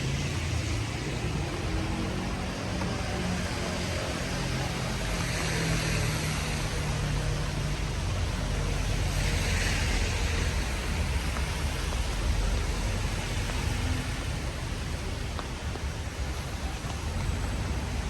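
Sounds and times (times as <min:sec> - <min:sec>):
low traffic rumble: 0:00.0 - 0:18.0
rain hissing on wet street: 0:00.0 - 0:18.0.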